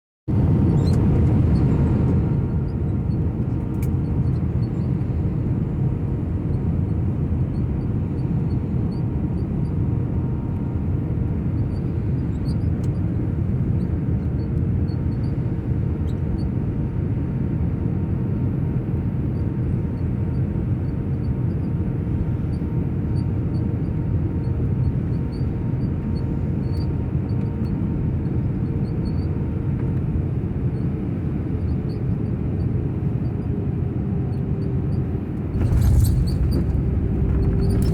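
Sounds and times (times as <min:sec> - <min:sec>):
airliner cabin rumble: 0:00.3 - 0:37.9.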